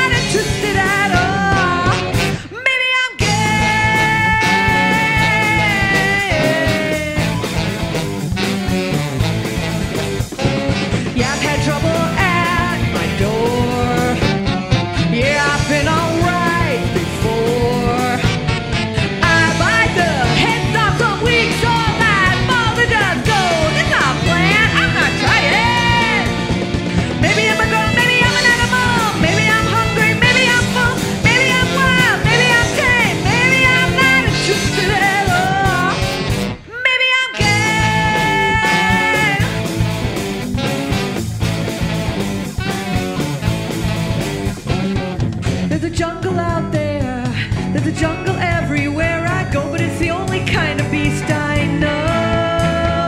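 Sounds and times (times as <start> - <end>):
bending lead melody line: 0.0 - 2.4, 3.2 - 53.0
live rock band playing: 0.0 - 2.6, 3.2 - 53.0.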